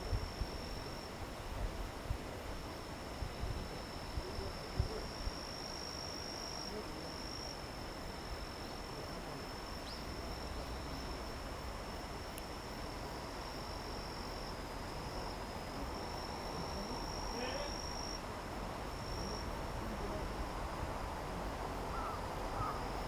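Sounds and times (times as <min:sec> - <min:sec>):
insects trilling: 0:00.0 - 0:23.0
low background hiss: 0:00.0 - 0:23.0.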